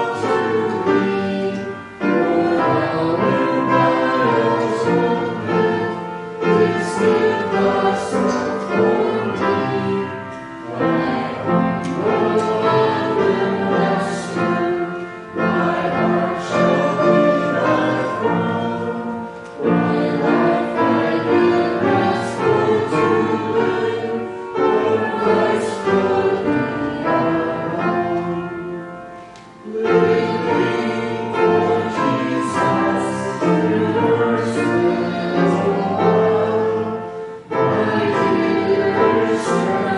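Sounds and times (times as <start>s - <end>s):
group singing a hymn: 0.0s - 39.9s
instrumental accompaniment: 0.0s - 39.9s.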